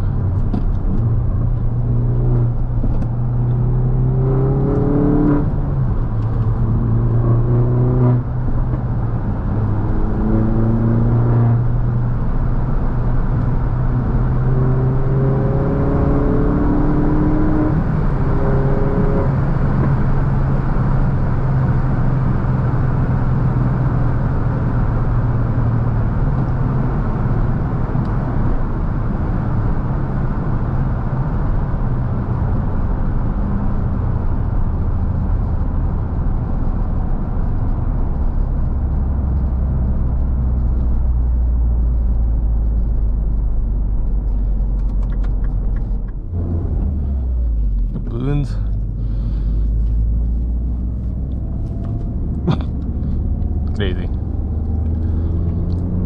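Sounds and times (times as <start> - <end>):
car engine accelerating: 0.0 - 56.0
tyre and road noise: 0.0 - 56.0.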